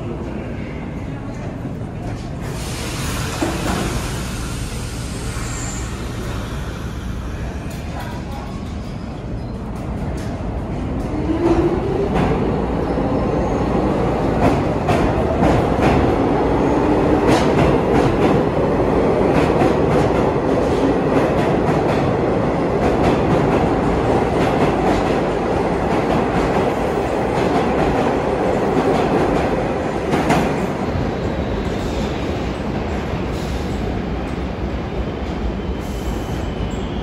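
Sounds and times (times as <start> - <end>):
subway train running: 0.0 - 37.0.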